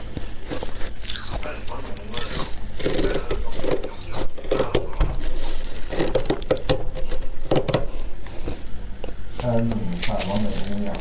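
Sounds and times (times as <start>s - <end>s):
chewing crunchy frost: 0.0s - 6.7s, 8.2s - 11.0s.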